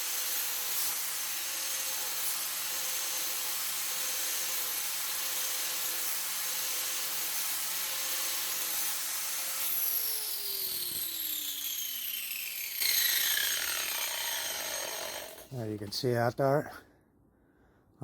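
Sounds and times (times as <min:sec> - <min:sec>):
angle grinder grinding wood: 0:00.0 - 0:16.0.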